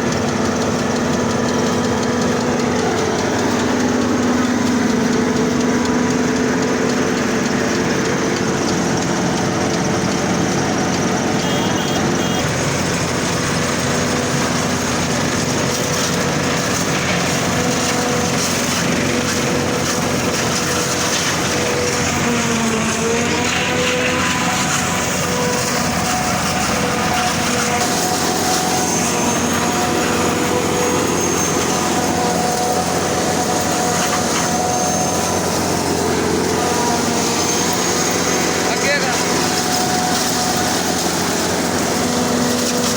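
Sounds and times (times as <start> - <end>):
combine harvester engine drone: 0.0 - 42.9
high constant whines: 6.9 - 42.9.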